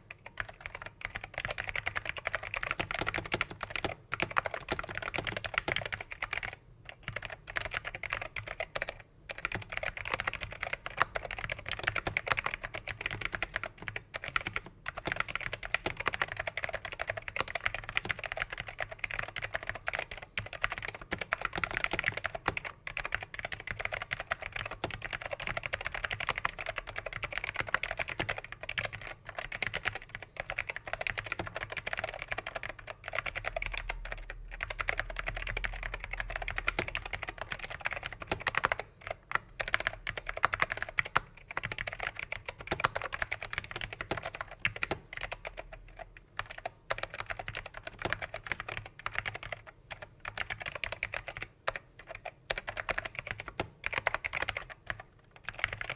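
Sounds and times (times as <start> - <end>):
fast keyboard typing: 0.0 - 55.9.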